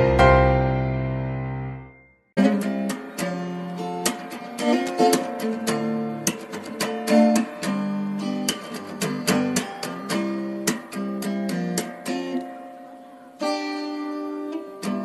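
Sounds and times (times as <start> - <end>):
acoustic guitar strummed and picked: 0.0 - 15.0.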